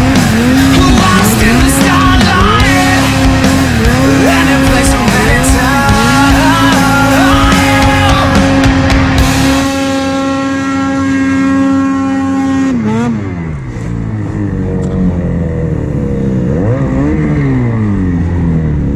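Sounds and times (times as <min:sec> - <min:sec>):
snowmobile engine revving: 0:00.0 - 0:18.9.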